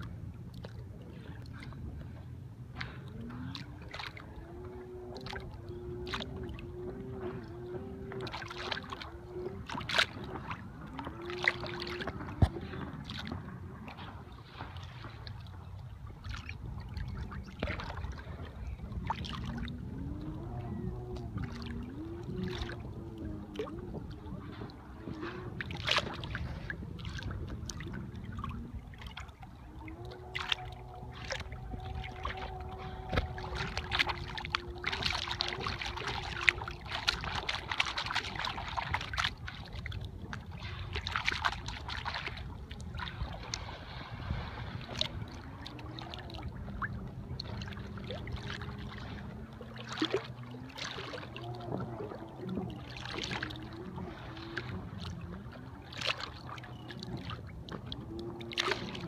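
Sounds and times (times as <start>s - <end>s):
faint drone: 0.0s - 59.0s
water lapping and slapping: 0.0s - 59.0s
water splashes: 0.0s - 59.0s
wind: 0.0s - 59.0s.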